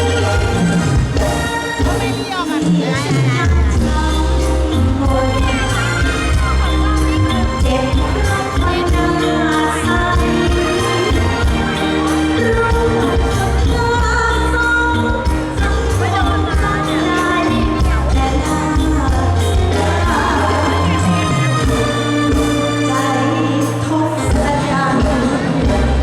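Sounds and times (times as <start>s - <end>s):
live band through loudspeakers: 0.0s - 26.0s
person singing: 0.0s - 26.0s.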